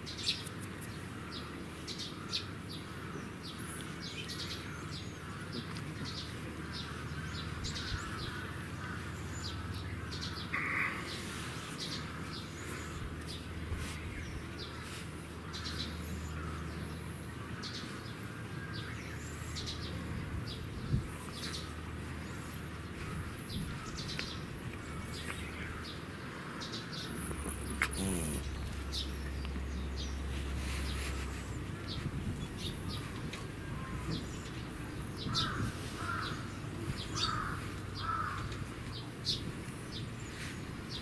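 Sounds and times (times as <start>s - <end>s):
outdoor background noise: 0.0s - 41.0s
small birds chirping: 0.0s - 41.0s.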